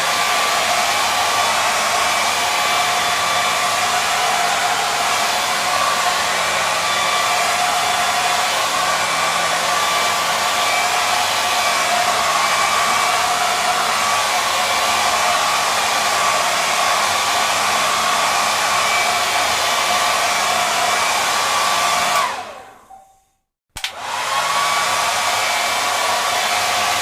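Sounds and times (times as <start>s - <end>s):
hair dryer blowing: 0.0s - 23.0s, 23.8s - 27.0s.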